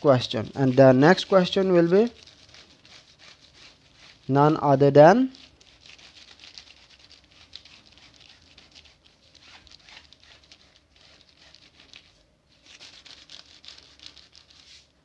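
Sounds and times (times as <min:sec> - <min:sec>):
marker rubbing on plastic sheet: 0:00.0 - 0:14.9.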